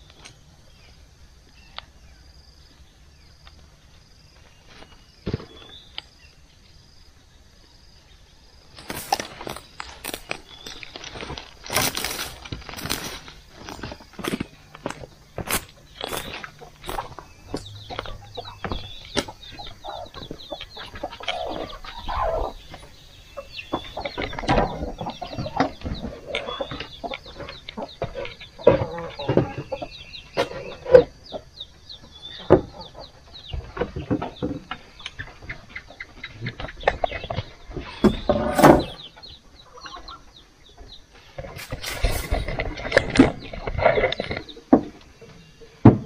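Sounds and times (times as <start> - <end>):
chickens clucking: 8.8 - 46.0.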